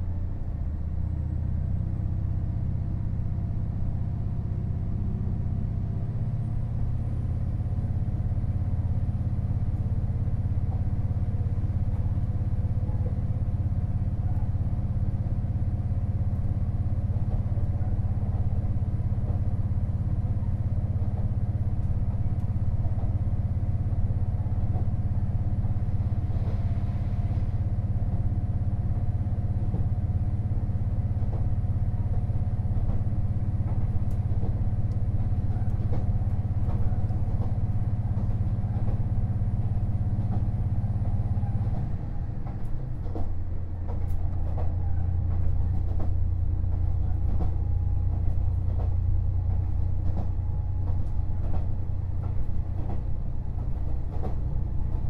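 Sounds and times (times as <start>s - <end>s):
diesel railcar engine drone: 0.0s - 55.0s
train running noise: 0.0s - 55.0s.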